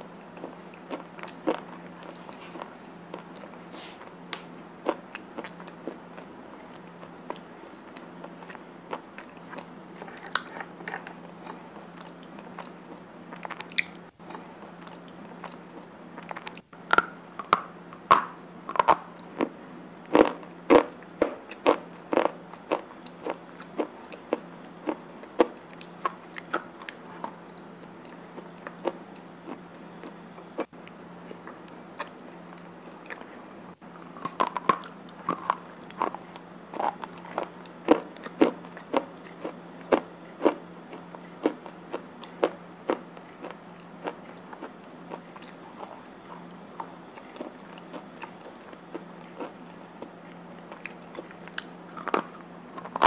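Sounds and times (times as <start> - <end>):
dry crunching chewing: 0.3 - 53.0.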